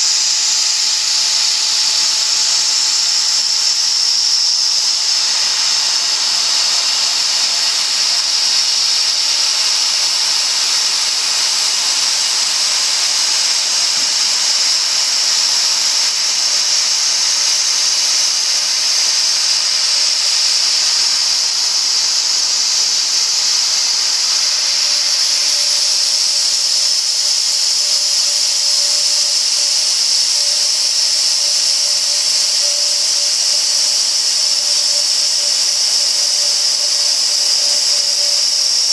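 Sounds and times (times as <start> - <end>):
router spindle high-pitched whine: 0.0 - 38.9.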